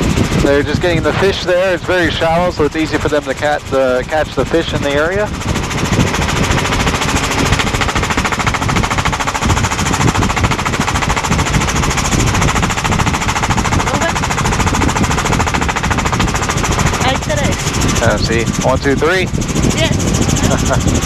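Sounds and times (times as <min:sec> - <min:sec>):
helicopter engine noise: 0:00.0 - 0:21.0
helicopter rotor blades chopping: 0:00.0 - 0:21.0.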